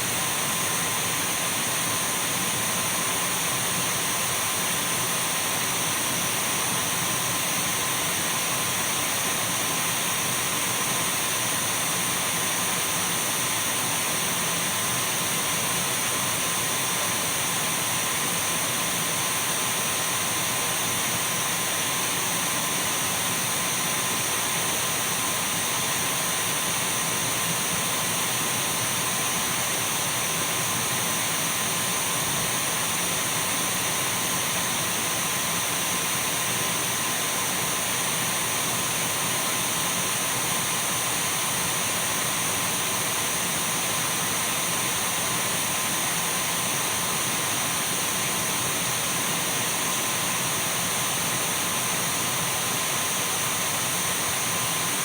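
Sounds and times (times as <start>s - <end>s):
cordless vacuum running: 0.0s - 55.0s.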